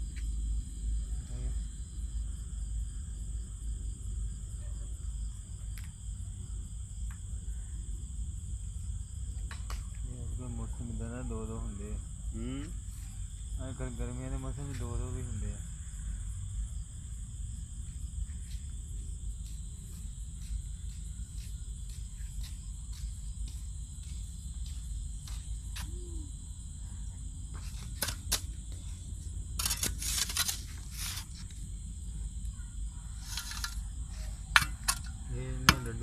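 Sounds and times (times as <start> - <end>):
crickets chirping chorus: 0.0 - 36.0.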